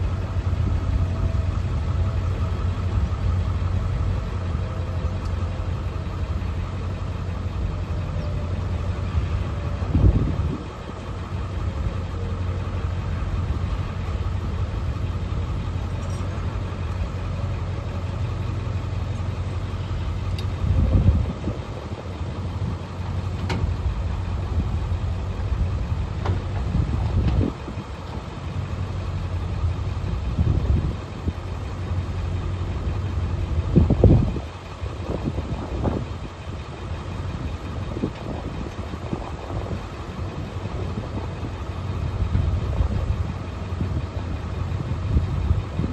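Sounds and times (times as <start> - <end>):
truck engine and road drone: 0.0 - 45.9.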